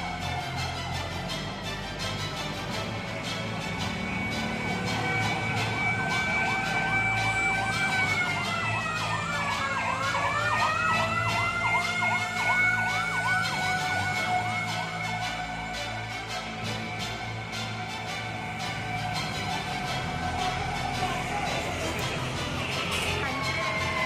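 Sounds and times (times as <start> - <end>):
fire truck siren yelping: 0.0 - 24.0
steady high siren tone: 0.0 - 24.0.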